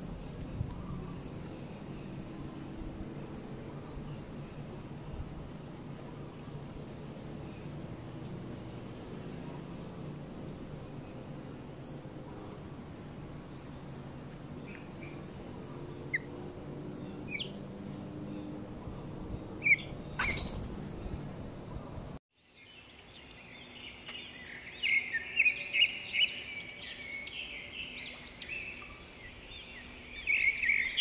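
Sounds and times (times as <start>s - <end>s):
steady outdoor hum: 0.0s - 31.0s
birds chirping: 0.2s - 31.0s.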